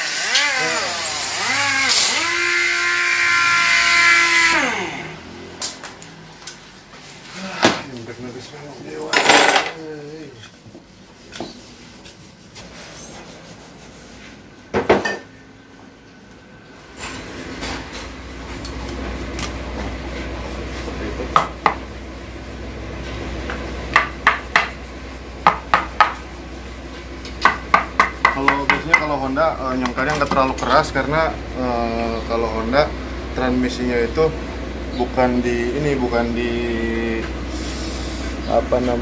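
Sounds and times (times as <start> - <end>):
steady low hum: 4.7 - 39.0.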